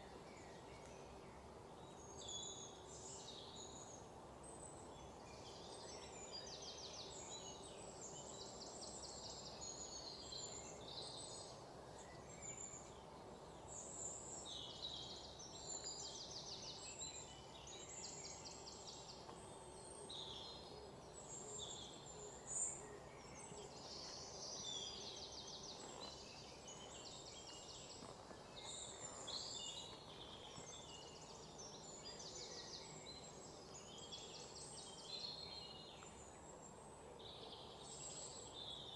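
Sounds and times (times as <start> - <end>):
faint steady background noise: 0.0 - 38.9
small birds chirping: 0.0 - 38.9.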